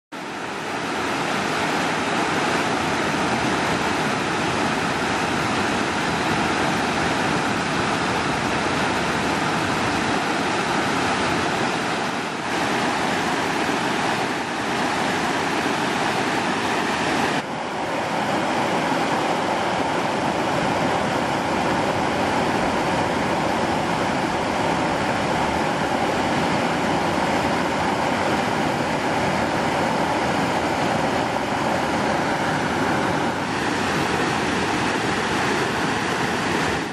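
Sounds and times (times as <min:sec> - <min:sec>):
water rushing over rocks: 0:00.2 - 0:36.9.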